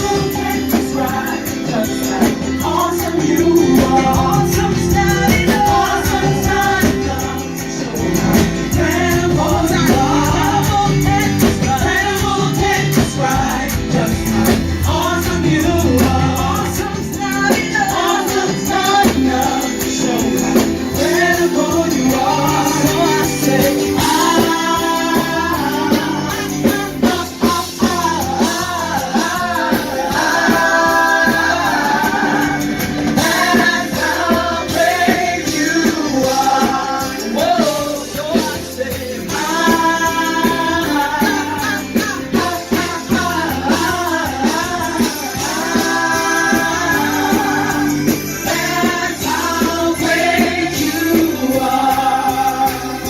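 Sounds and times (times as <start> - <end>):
band accompaniment: 0.0 - 53.0
group singing: 0.0 - 53.0
tambourine: 0.0 - 53.0
woman singing: 0.0 - 53.0.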